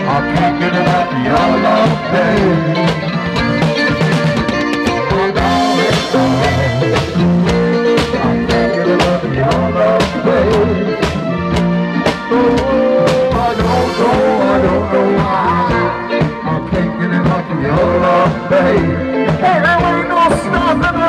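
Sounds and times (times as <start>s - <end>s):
drum kit beat: 0.0s - 21.0s
electric bass: 0.0s - 21.0s
live band playing: 0.0s - 21.0s.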